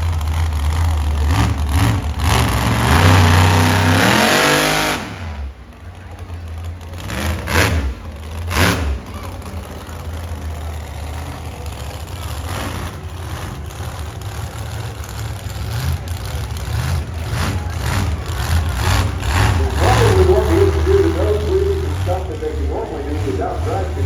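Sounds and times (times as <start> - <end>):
engine surging: 0.0 - 24.0
truck engine idling: 0.0 - 24.0.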